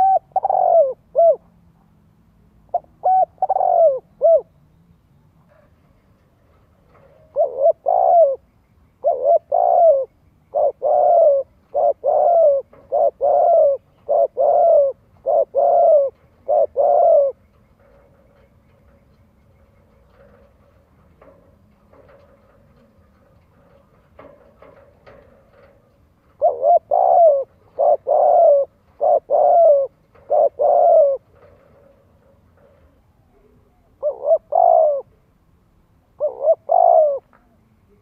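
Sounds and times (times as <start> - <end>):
dove cooing: 0.0 - 1.6, 2.7 - 4.5, 6.9 - 35.2, 36.1 - 38.0.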